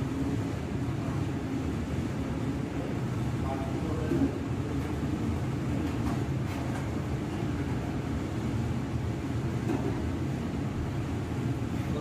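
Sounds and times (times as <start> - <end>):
blower fan humming: 0.0 - 12.0.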